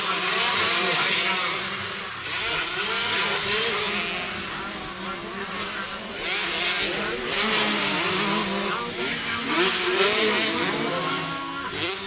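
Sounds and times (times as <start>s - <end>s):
motocross motorcycles revving: 0.0s - 12.0s.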